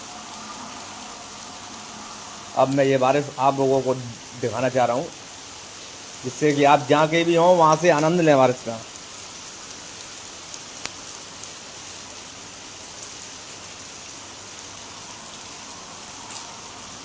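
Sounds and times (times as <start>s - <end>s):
steady rain pattering: 0.0s - 17.0s
sharp raindrop ticks: 2.6s - 17.0s.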